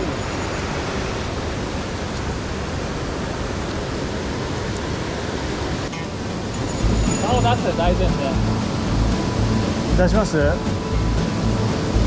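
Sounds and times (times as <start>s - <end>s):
stream pouring over rocks: 0.0s - 12.0s.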